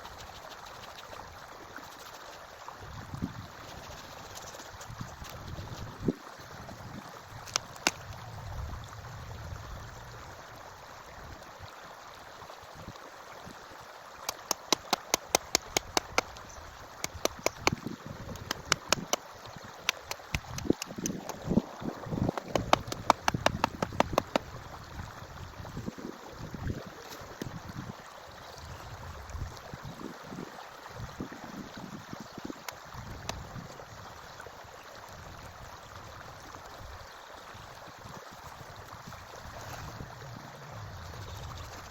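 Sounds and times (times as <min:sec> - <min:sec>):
stream flowing: 0:00.0 - 0:41.9.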